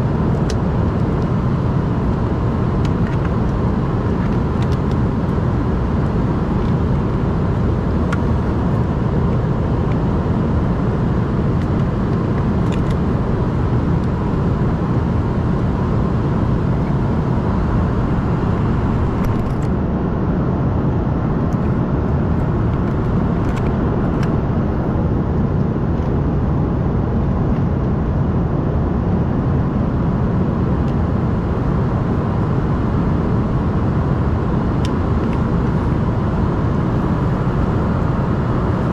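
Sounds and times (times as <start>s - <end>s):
jet engine and airflow noise in cabin: 0.0s - 38.9s.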